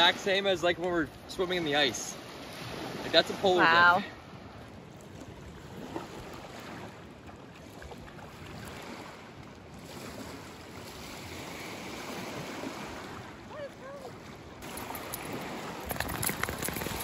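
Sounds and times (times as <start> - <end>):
waves lapping on a beach: 0.0 - 17.0
wind: 0.0 - 17.0.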